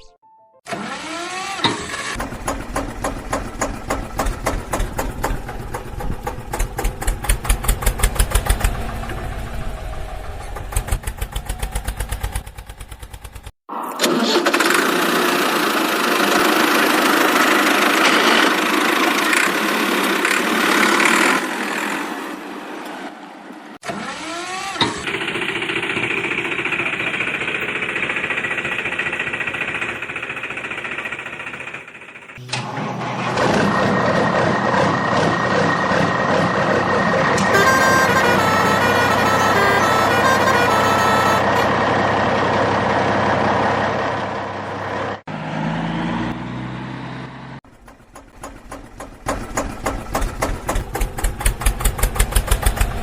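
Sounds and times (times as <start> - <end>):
engine running: 0.7 - 53.0.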